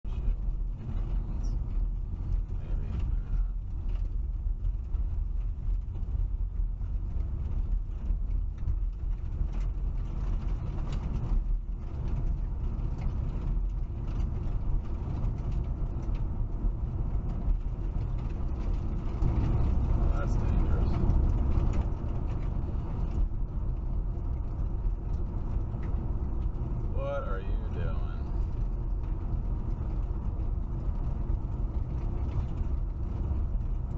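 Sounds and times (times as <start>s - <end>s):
road and engine rumble in car: 0.0s - 33.9s.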